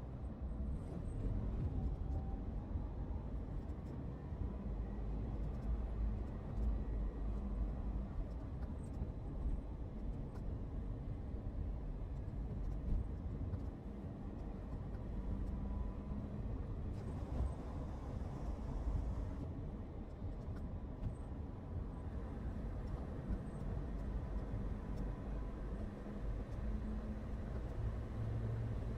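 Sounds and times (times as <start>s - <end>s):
car driving on road: 0.0s - 28.9s.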